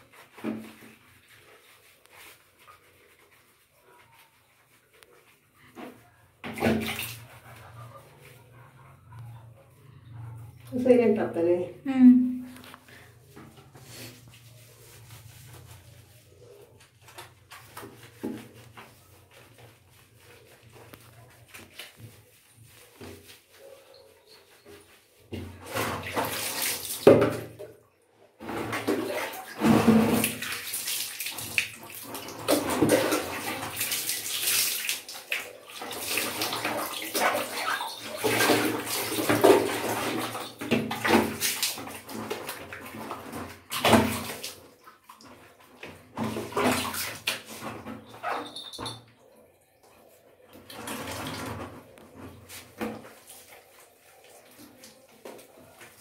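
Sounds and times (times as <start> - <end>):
water splashing and sloshing: 0.0 - 56.0.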